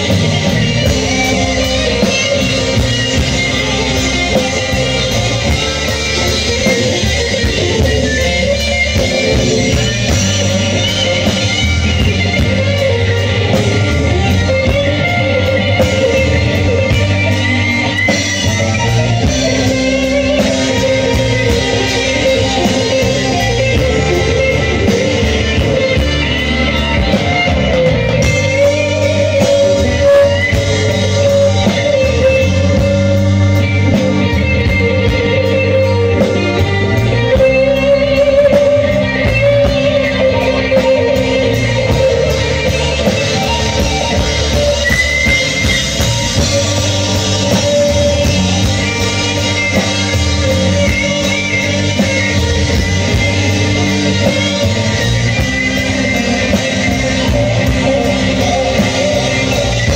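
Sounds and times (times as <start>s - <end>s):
bass guitar: 0.0s - 59.9s
drums: 0.0s - 59.9s
electric guitar lead: 0.0s - 59.9s.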